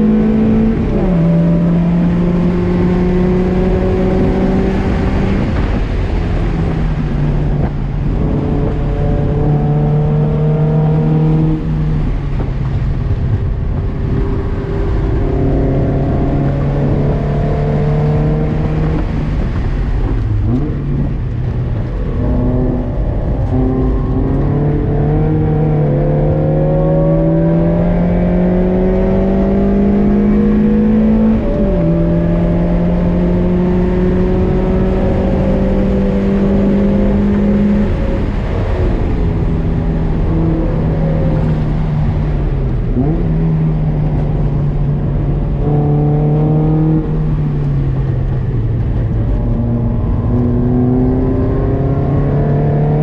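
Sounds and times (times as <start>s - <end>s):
car engine revving: 0.0s - 53.0s
tyre and road noise: 0.0s - 53.0s.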